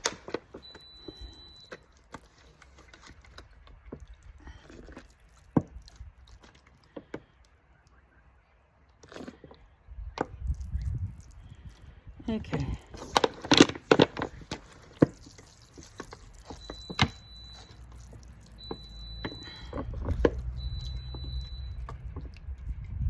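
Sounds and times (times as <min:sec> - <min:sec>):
soft rustling of soil: 0:00.0 - 0:23.0.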